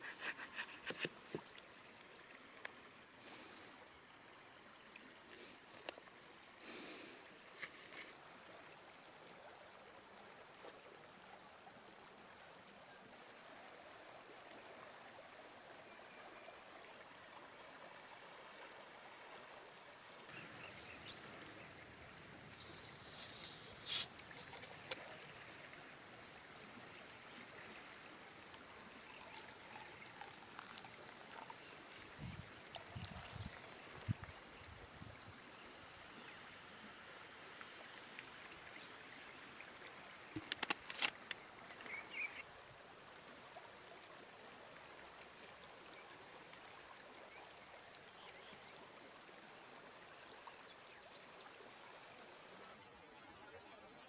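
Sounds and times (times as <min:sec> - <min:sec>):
river flowing: 0:00.0 - 0:53.2.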